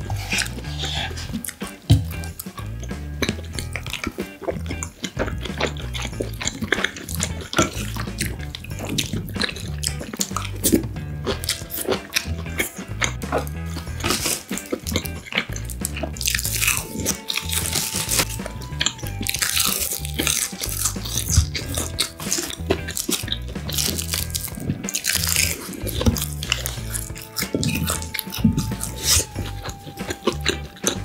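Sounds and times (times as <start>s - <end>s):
crunching crisp seaweed: 0.0s - 31.0s
wet chewing: 0.0s - 31.0s.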